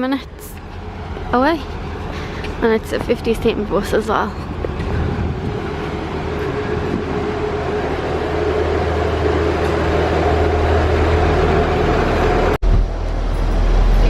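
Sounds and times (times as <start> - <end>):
bus engine rumbling: 0.0 - 14.0
whining hum: 0.3 - 14.0.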